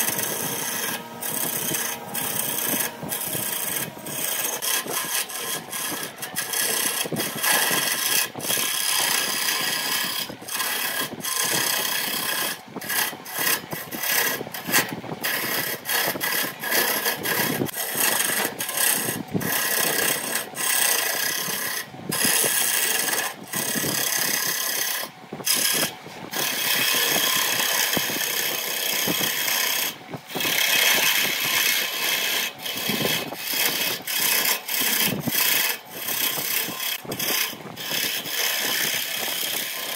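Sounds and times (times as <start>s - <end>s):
chisel scraping wood on lathe: 0.0s - 39.9s.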